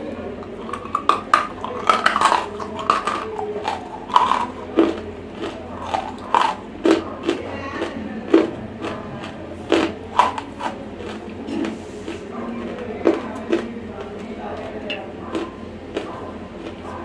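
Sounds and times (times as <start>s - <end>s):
crunching of clay being chewed: 0.1s - 17.0s.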